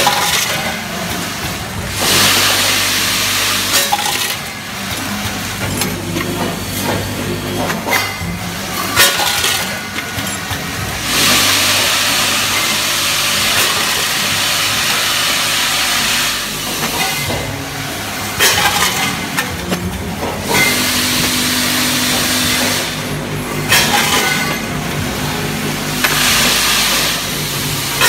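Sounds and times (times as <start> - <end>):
machine hissing: 0.0 - 19.4, 20.4 - 28.0
machine low hum: 0.8 - 28.0.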